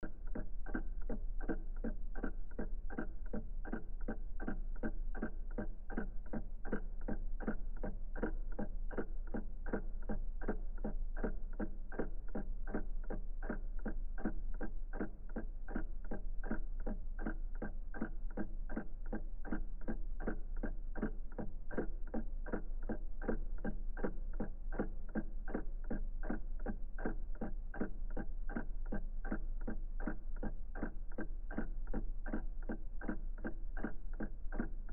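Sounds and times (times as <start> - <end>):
mechanical clock ticking: 0.0 - 34.9.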